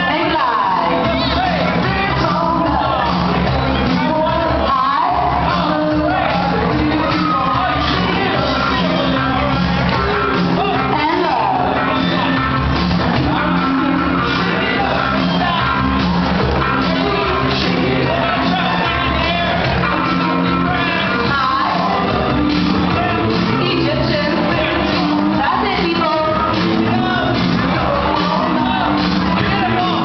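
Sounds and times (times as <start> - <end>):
song with sung melody over beat: 0.0 - 30.0.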